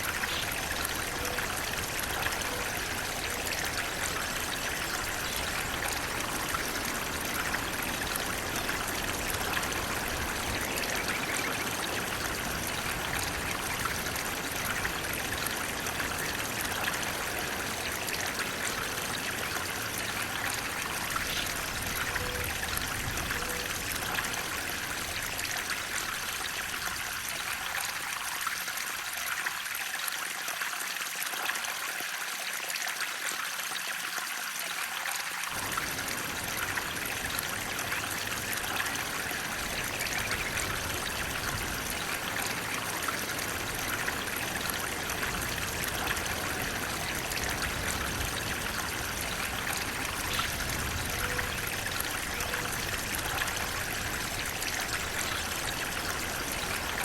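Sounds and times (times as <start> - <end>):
water flowing and trickling: 0.0 - 57.0.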